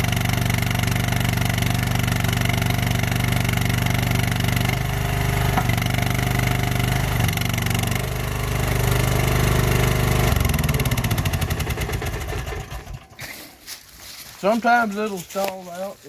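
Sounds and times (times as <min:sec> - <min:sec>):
engine labouring and stalling: 0:00.0 - 0:13.5.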